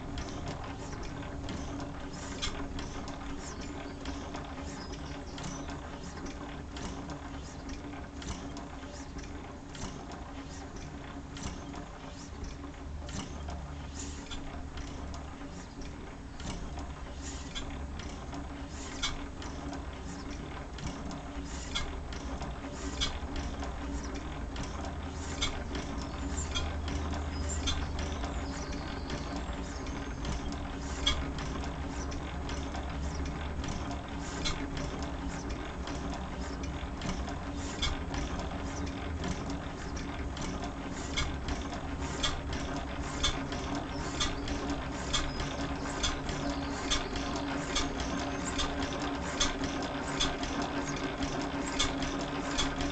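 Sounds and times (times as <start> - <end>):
stationary engine clatter: 0.0 - 52.9.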